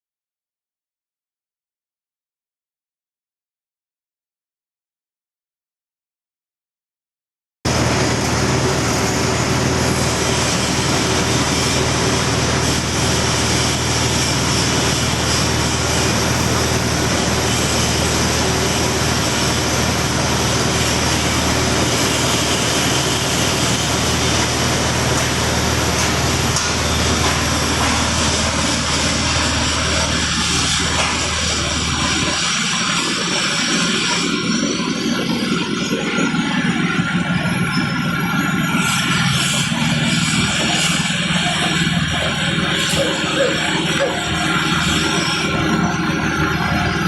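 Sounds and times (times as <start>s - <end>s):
machine motor hum: 7.7s - 47.0s.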